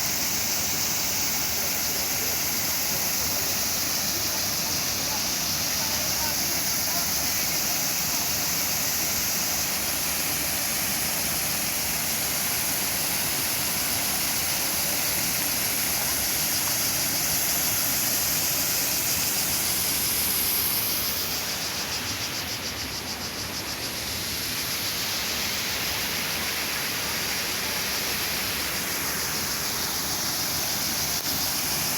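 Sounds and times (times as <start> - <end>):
rushing water: 0.0 - 31.9.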